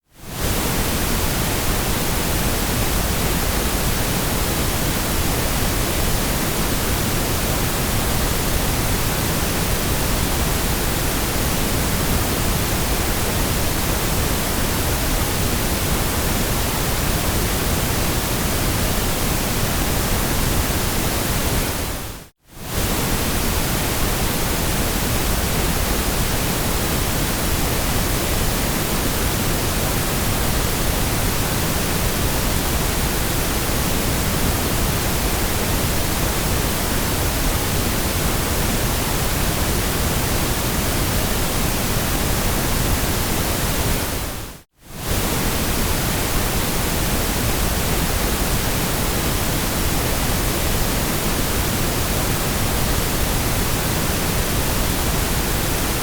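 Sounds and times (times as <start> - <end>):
steady white noise hiss: 0.0 - 56.0.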